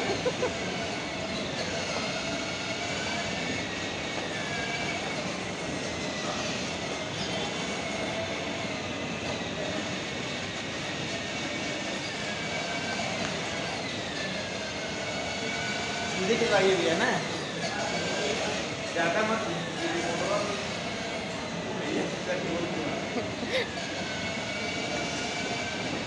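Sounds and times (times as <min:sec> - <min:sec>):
toy car motor whining: 0:00.0 - 0:26.0
wheels rolling: 0:00.0 - 0:26.0.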